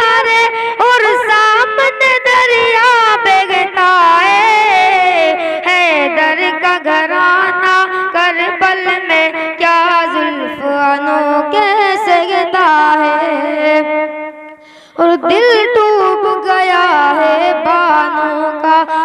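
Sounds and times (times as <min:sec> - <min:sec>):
boy singing into a microphone: 0:00.0 - 0:19.0.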